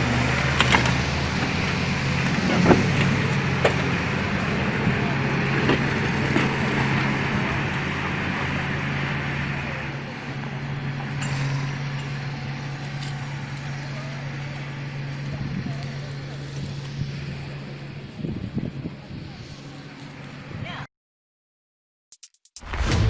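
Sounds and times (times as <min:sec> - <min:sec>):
heavy vehicle engine running: 0:00.0 - 0:20.6.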